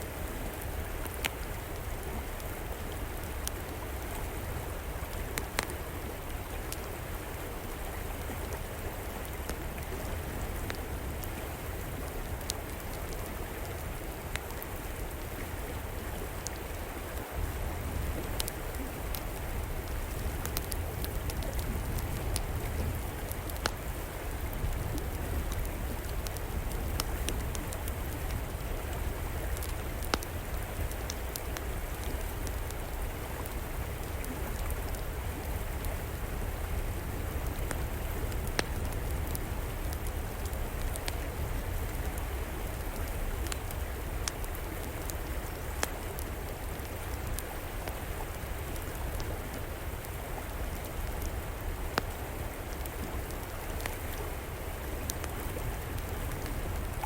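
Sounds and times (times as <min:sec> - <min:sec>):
river water flowing: 0:00.0 - 0:57.0
fire crackling and popping: 0:00.3 - 0:07.3, 0:08.0 - 0:57.0.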